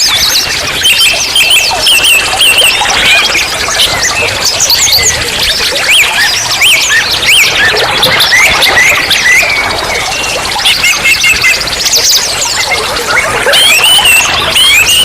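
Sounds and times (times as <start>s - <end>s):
running stream water: 0.0s - 15.0s.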